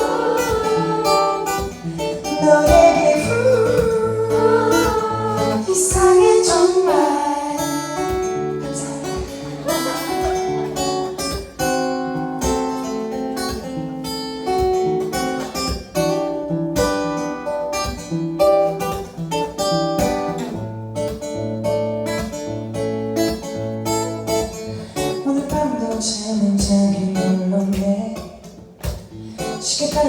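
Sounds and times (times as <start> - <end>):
acoustic guitar chords: 0.0 - 30.0.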